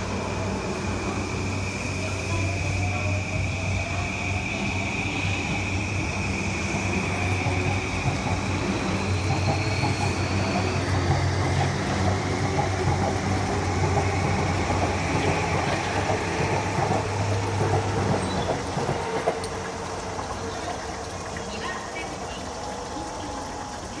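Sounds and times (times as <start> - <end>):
electric train motors whining: 0.0 - 21.3
wheels rumbling on rail: 0.0 - 24.0.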